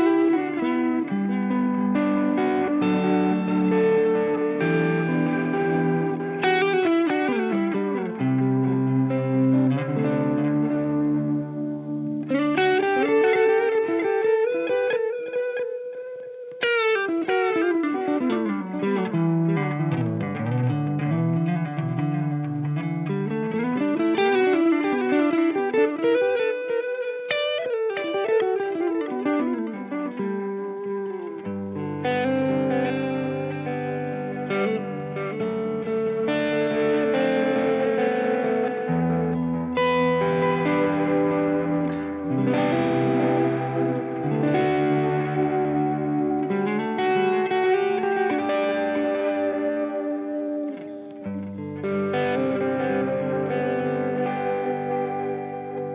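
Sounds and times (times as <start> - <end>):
electric guitar with echo: 0.0 - 55.9.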